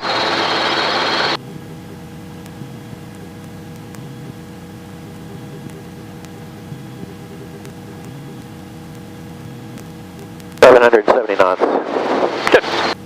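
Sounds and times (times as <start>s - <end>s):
helicopter engine and rotor drone: 0.0s - 13.0s
radio transmission hiss: 0.0s - 13.0s.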